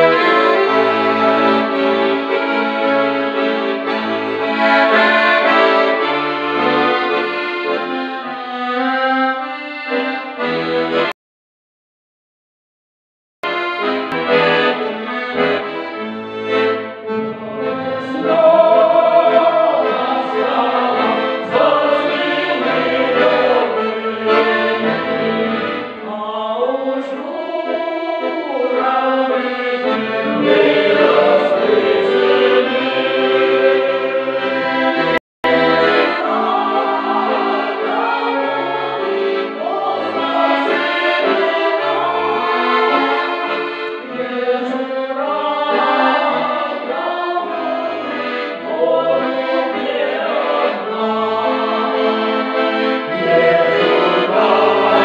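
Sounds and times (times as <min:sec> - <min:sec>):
mixed choir singing: 0:00.0 - 0:07.3, 0:17.0 - 0:55.0
piano accordion: 0:00.0 - 0:11.2, 0:13.4 - 0:55.0.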